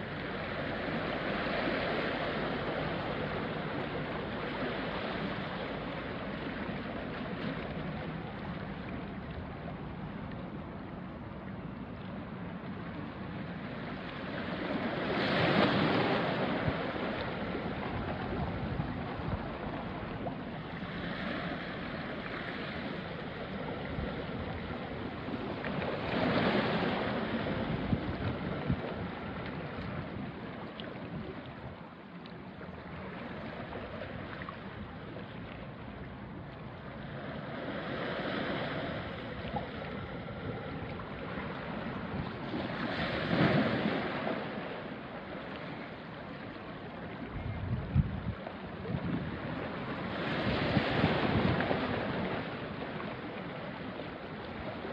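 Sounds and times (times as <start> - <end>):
waves washing over rocks: 0.0 - 10.8, 12.8 - 31.9, 36.6 - 54.9.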